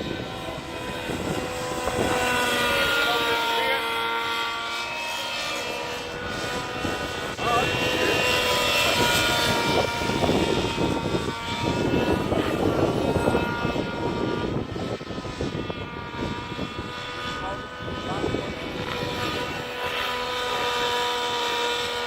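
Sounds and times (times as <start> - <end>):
rc helicopter high-pitched whine: 0.0 - 22.0.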